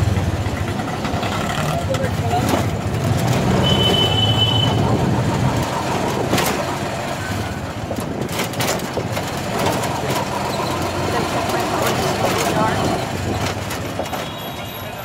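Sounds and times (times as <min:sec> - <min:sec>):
auto-rickshaw engine humming: 0:00.0 - 0:15.0
knocks and rattles: 0:00.1 - 0:14.4.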